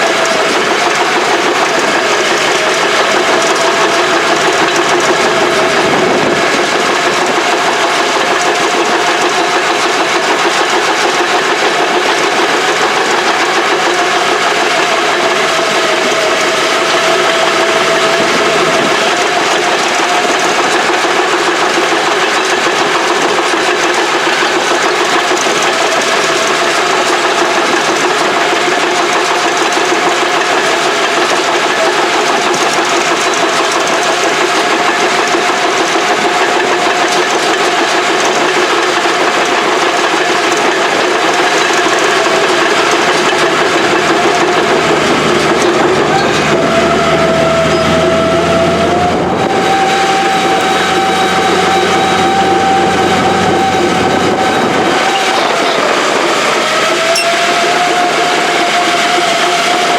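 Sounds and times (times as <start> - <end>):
heavy equipment engine whining: 0.0 - 59.9.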